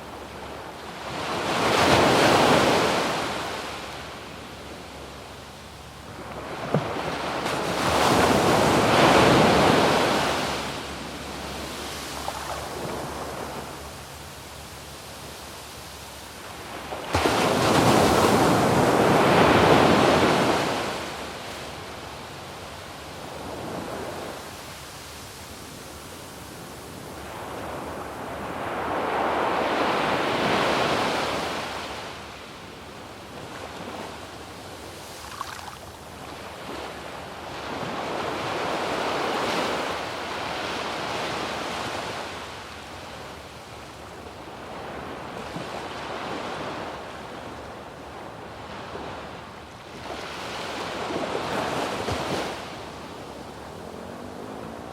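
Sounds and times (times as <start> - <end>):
waves breaking on a beach: 0.0 - 54.9.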